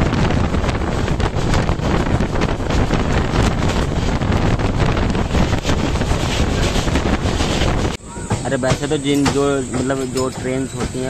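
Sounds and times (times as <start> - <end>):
moving passenger train: 0.0 - 11.0
wind buffeting microphone: 0.0 - 11.0.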